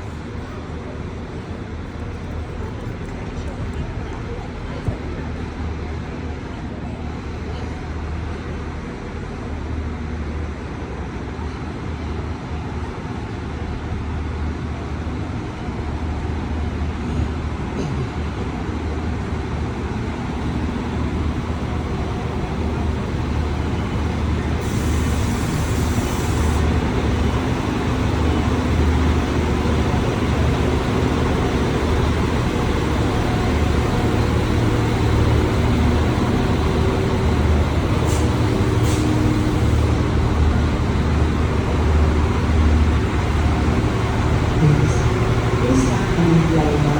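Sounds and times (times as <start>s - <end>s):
large vehicle engine humming: 0.0s - 46.9s.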